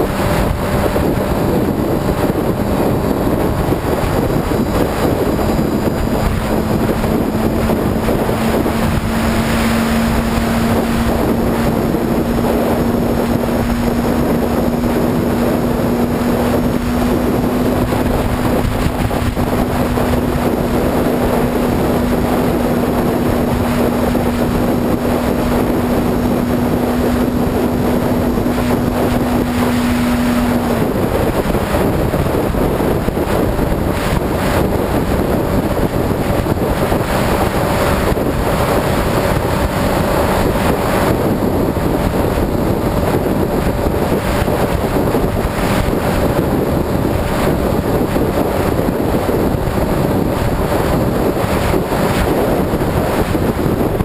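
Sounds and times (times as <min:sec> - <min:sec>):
motorcycle engine cruising: 0:00.0 - 0:54.0
wind rushing on microphone: 0:00.0 - 0:54.0.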